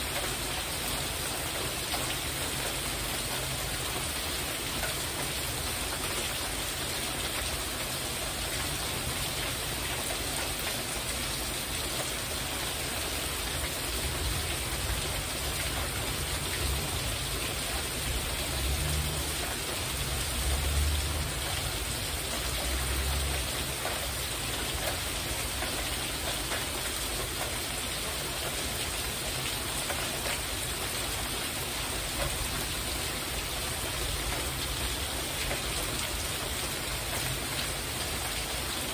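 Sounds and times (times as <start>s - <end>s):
heavy rain drumming on a roof: 0.0s - 38.9s.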